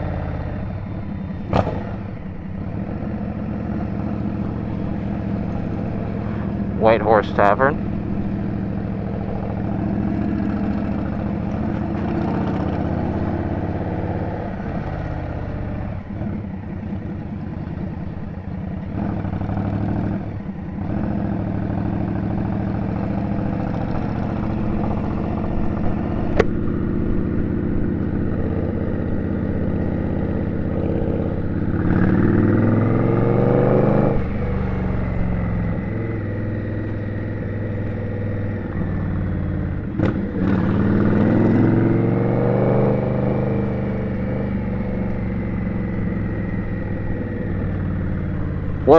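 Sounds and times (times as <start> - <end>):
city traffic: 0.0 - 48.9
motorcycle engine running: 0.0 - 48.9.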